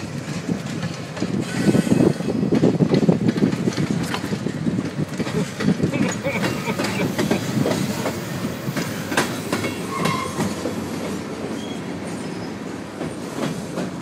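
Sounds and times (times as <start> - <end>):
freight train rumbling: 0.0 - 14.0
train wheels clacking on rail joints: 0.0 - 14.0.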